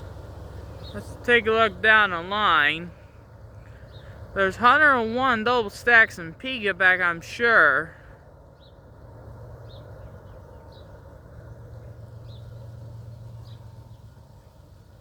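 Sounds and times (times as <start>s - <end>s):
distant diesel locomotives rumbling: 0.0s - 15.0s.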